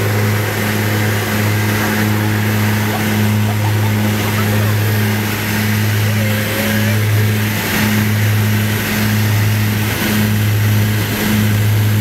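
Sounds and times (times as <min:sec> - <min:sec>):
aircraft engines droning: 0:00.0 - 0:12.0.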